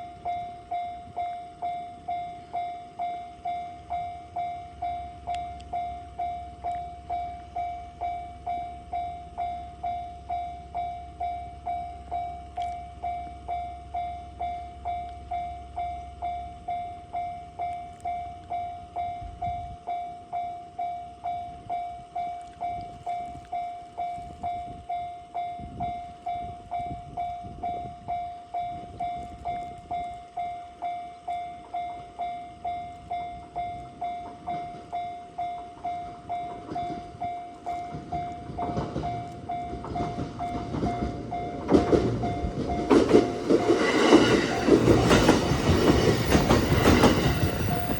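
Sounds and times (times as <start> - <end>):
level crossing warning bell: 0.0 - 47.9.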